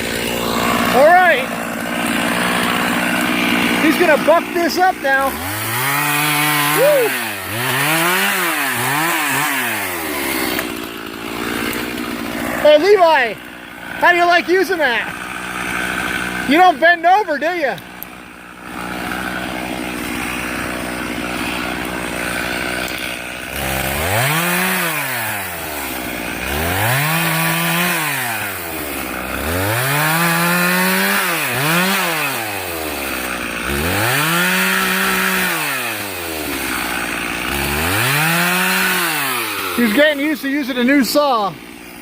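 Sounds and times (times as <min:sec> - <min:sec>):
chainsaw revving: 0:00.0 - 0:42.0.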